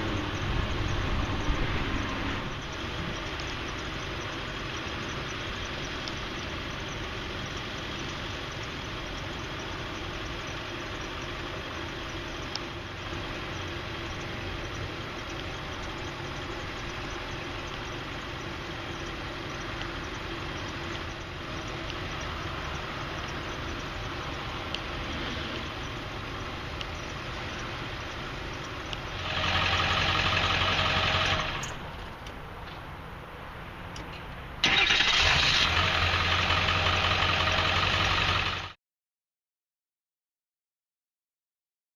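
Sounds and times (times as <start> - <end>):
diesel truck engine idling: 0.0 - 38.8.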